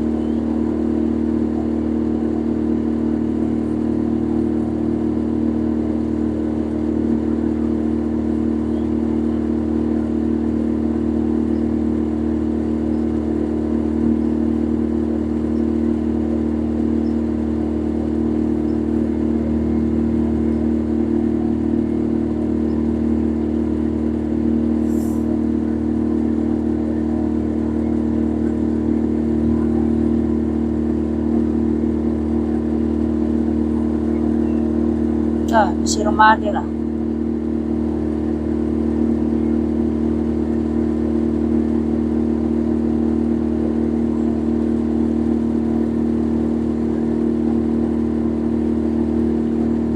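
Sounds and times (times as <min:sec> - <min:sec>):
engine droning hum: 0:00.0 - 0:49.9.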